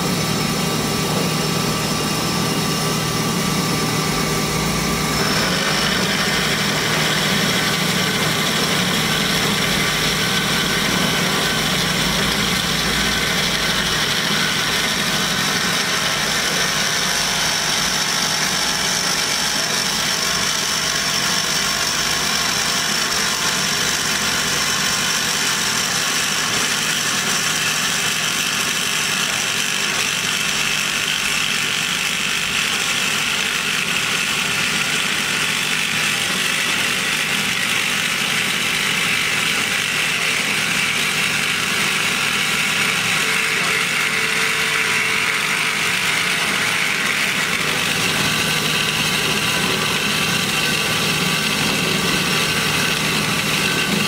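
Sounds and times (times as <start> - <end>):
band saw cutting metal: 0.0 - 54.0
coolant flowing: 0.0 - 54.0.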